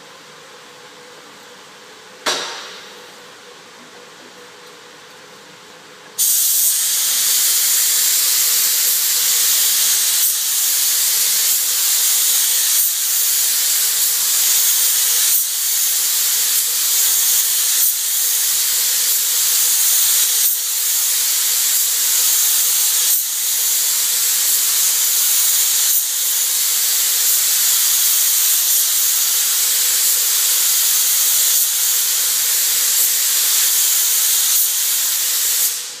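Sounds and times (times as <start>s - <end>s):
paint spray gun hissing: 6.2s - 36.0s.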